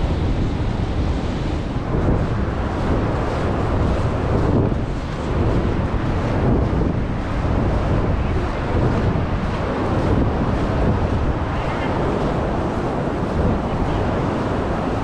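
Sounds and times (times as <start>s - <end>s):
ocean surf rushing: 0.0s - 15.0s
wind buffeting microphone: 0.0s - 15.0s.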